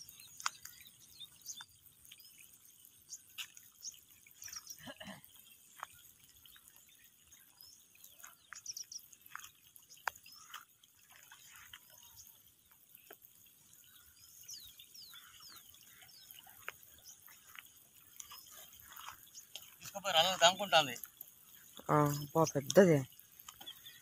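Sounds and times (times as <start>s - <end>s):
bird chirps: 0.0s - 24.0s
rain drips: 0.0s - 24.0s.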